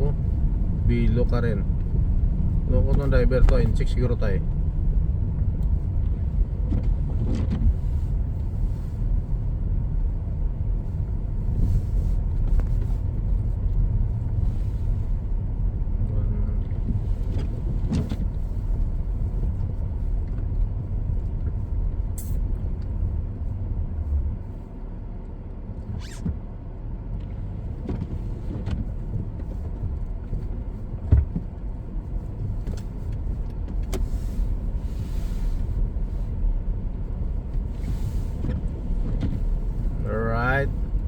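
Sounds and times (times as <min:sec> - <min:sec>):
road and engine rumble in car: 0:00.0 - 0:41.0.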